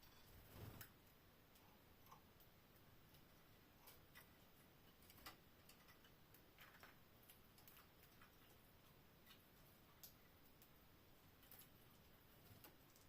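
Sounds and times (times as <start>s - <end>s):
faint small clicks and taps: 0.0s - 13.0s.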